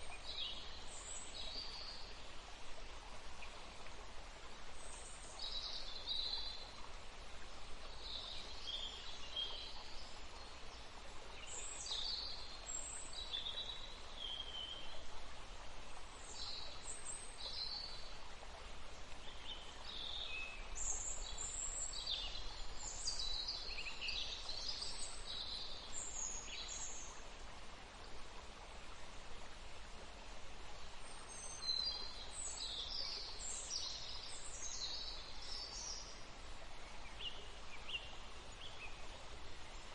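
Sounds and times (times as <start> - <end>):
running water hiss: 0.0 - 39.9.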